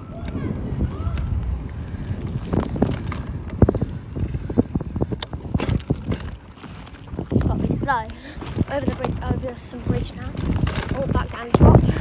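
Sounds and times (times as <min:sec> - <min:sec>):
bicycle rattling over pavement: 0:00.0 - 0:12.0.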